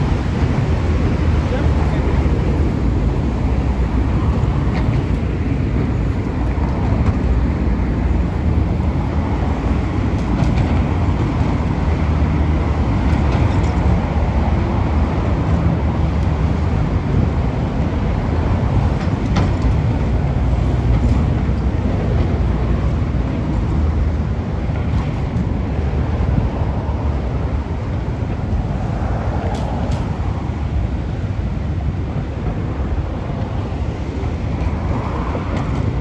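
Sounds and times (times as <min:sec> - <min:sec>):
traffic rumble on bridge: 0:00.0 - 0:36.0.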